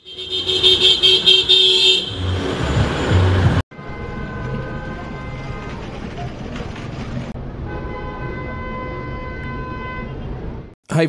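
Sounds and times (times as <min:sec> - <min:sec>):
car horns honking: 0:00.0 - 0:06.1, 0:07.6 - 0:10.6
street noise: 0:00.0 - 0:11.0.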